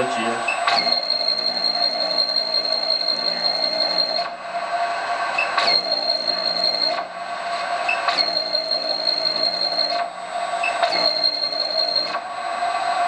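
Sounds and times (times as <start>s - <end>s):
servomotor buzzing whine: 0.0s - 12.7s.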